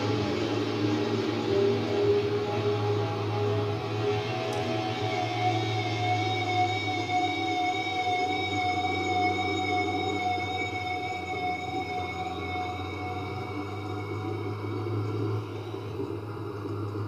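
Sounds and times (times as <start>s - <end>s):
motorcycle engine whine: 0.0s - 17.0s.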